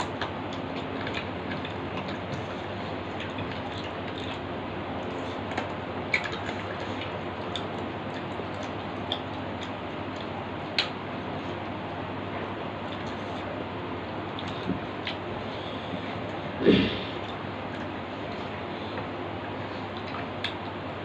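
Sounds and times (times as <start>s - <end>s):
chewing and mouth noises: 0.0s - 11.7s, 14.3s - 20.8s
steady low hum: 0.0s - 21.0s.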